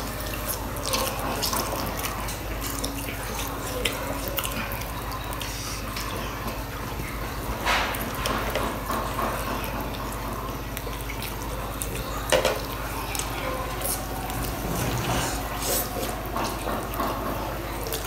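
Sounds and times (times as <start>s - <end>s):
noodles being slurped: 0.0s - 8.6s, 10.6s - 18.0s
chewing with mouth clicks: 0.0s - 18.0s.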